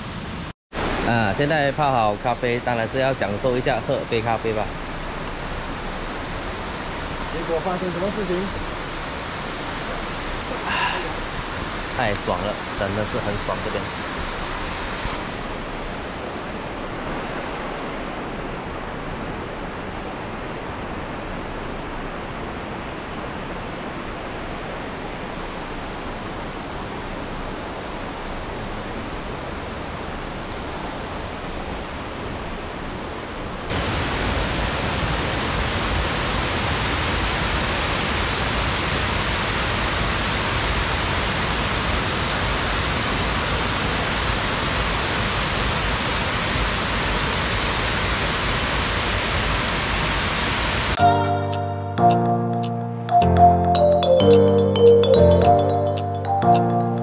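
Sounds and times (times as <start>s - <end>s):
waterfall rushing: 0.1s - 32.8s, 33.6s - 52.0s.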